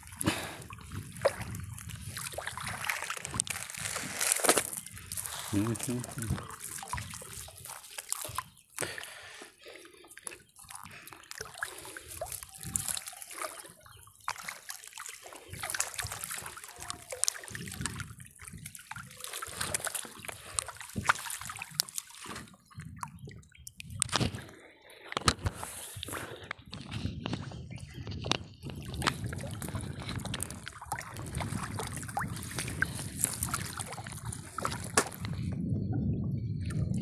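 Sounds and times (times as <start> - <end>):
water dripping and splashing: 0.0 - 26.2, 28.2 - 35.4.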